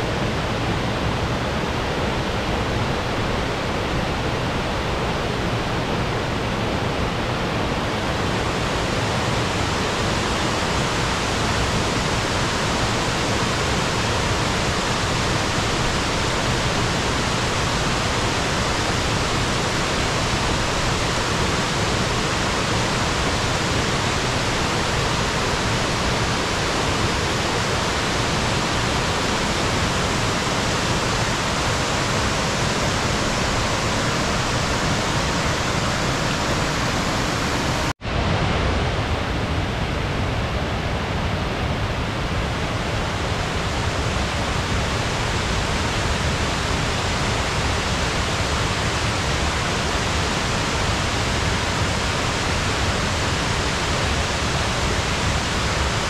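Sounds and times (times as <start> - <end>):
waterfall rushing: 0.0 - 41.4, 42.2 - 56.0.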